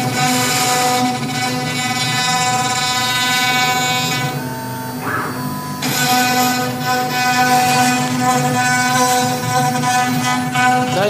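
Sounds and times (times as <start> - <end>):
end mill rasping into wood: 0.0 - 4.4, 5.0 - 11.0
router spindle whine: 0.0 - 11.0.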